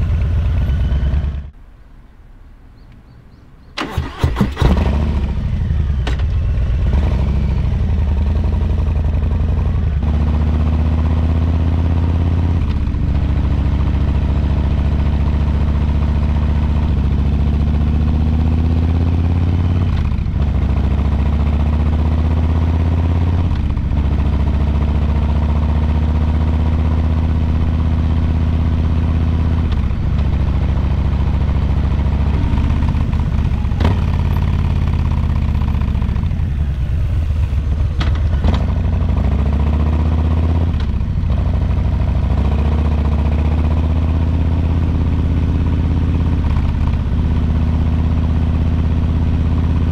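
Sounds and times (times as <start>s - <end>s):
motorcycle accelerating through gears: 3.8s - 49.9s.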